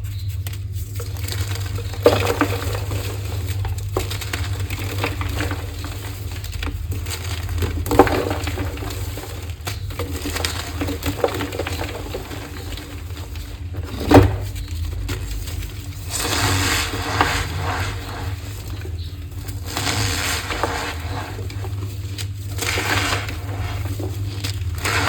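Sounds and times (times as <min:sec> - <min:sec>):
chalk block crunching: 0:00.0 - 0:25.0.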